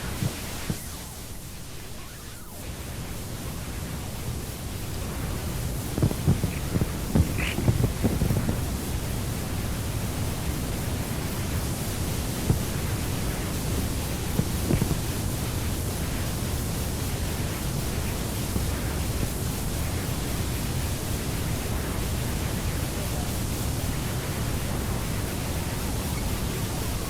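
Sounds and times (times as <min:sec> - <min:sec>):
hissing noise with low rumble: 0:00.0 - 0:27.0.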